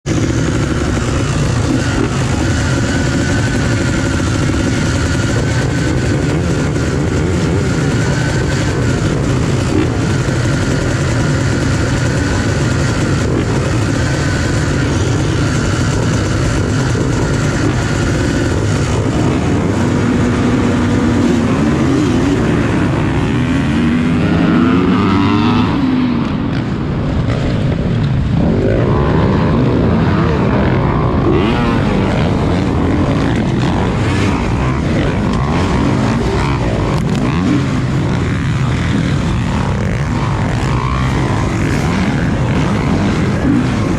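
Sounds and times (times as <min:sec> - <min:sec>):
dirt bike engines revving: 0:00.0 - 0:43.9.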